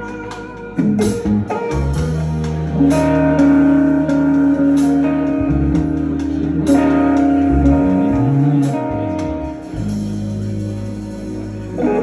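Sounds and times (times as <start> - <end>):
bass guitar: 0.0 - 12.0
electric guitar: 0.0 - 12.0
soul band playing: 0.0 - 12.0.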